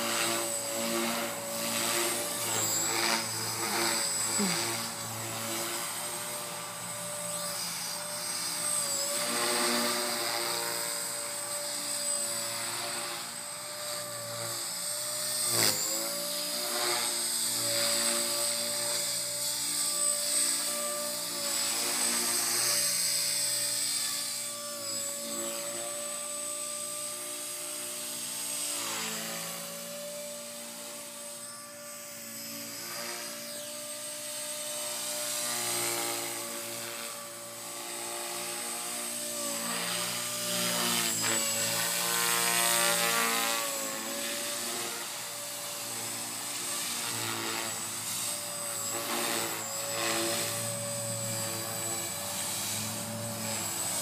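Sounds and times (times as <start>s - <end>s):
rc helicopter motor whine: 0.0s - 54.0s.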